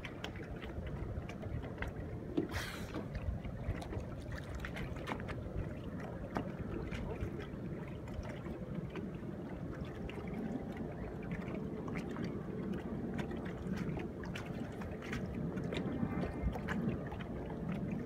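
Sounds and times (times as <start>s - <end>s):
water lapping against boat hull: 0.0s - 18.0s
wind rumble on microphone: 0.0s - 18.0s.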